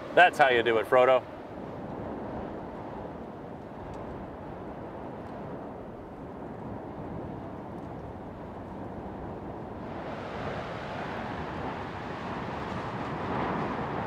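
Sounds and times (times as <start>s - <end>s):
lava rumbling and splashing: 1.2s - 14.0s.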